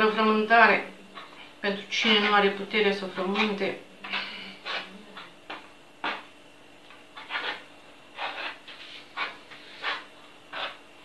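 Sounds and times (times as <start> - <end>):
fork scraping dough on wood: 1.1 - 11.0.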